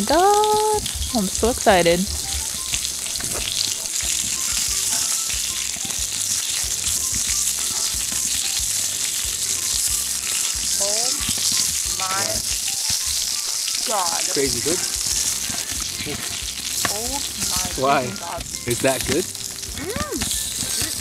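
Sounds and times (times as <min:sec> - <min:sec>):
meat sizzling on a grill plate: 0:00.0 - 0:21.0.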